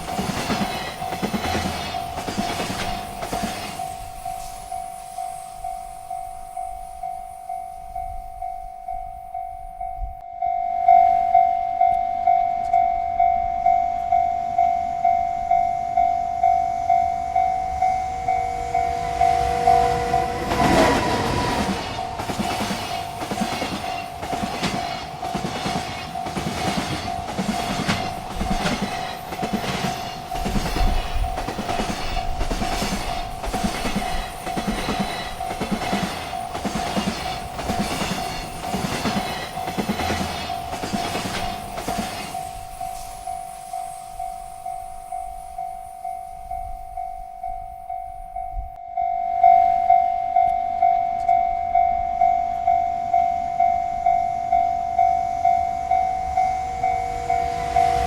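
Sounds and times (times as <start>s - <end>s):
train wheels clacking on rails: 0.0s - 10.2s, 11.9s - 48.7s, 50.4s - 58.0s
railroad crossing bell ringing: 0.0s - 58.0s.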